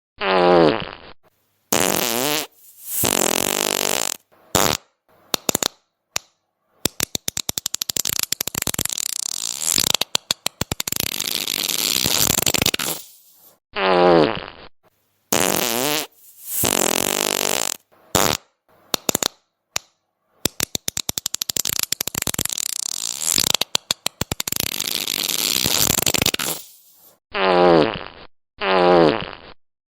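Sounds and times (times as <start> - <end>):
fart sound effects: 0.2 - 5.8, 7.7 - 13.2, 13.8 - 14.7, 15.3 - 19.3, 21.4 - 29.6.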